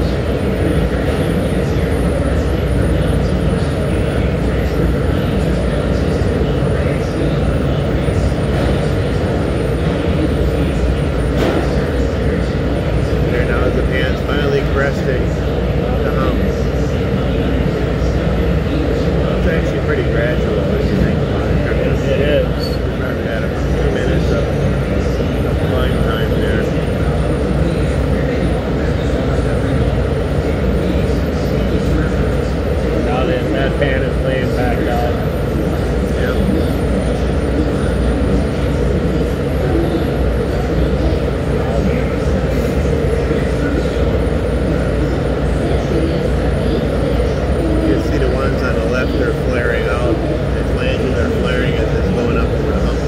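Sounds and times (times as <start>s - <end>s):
furnace combustion roar: 0.0s - 53.0s.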